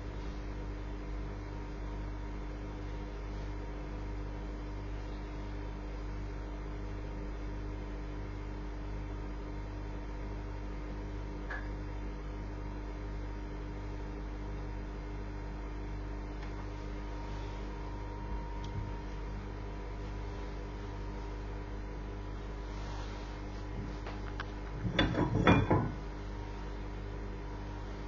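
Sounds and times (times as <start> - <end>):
toaster humming: 0.0 - 22.6, 23.7 - 28.0.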